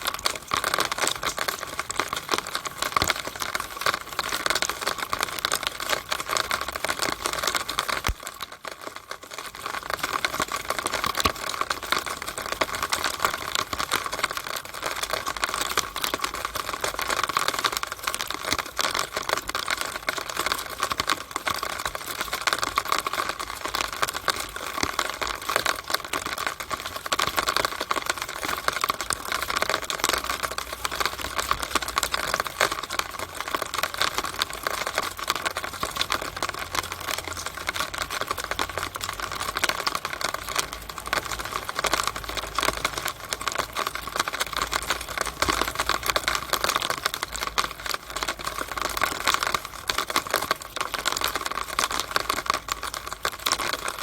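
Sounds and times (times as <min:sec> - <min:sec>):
rainwater dripping through downspout: 0:00.0 - 0:54.0.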